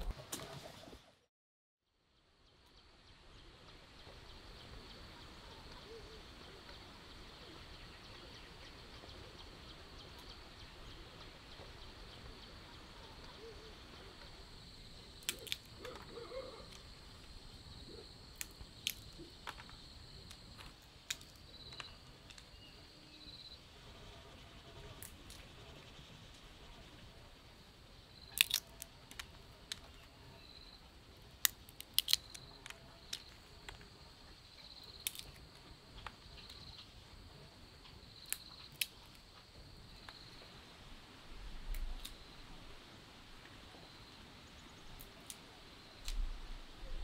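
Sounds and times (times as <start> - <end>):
soft bird calls: 2.1 - 47.0.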